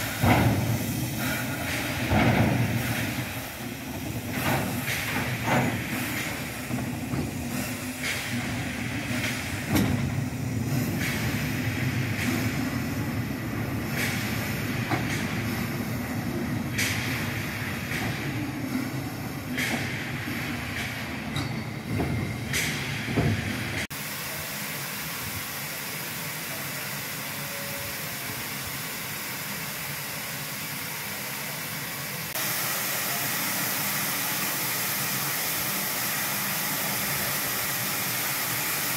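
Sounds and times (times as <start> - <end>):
steam hissing: 0.0 - 38.9
steam locomotive rumble: 0.0 - 38.9.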